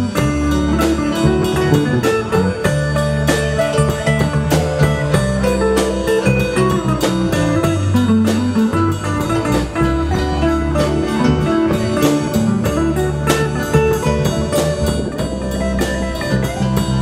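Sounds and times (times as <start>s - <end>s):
bass guitar: 0.0s - 17.0s
drum kit beat: 0.0s - 17.0s
electric guitar: 0.0s - 17.0s.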